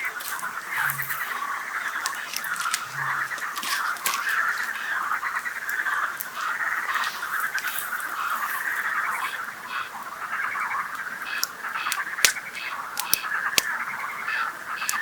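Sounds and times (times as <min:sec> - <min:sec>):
campfire crackling: 0:00.0 - 0:15.0
frogs croaking: 0:00.0 - 0:15.0.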